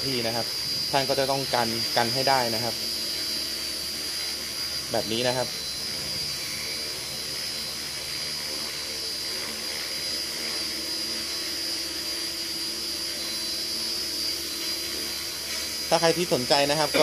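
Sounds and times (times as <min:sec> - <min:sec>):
helicopter motor whine: 0:00.0 - 0:17.0
rotor blades whirring: 0:00.0 - 0:17.0.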